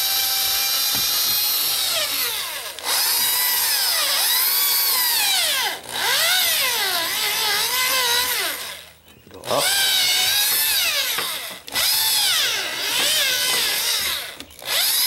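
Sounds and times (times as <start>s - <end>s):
electric drill gouging wood: 0.0s - 15.0s.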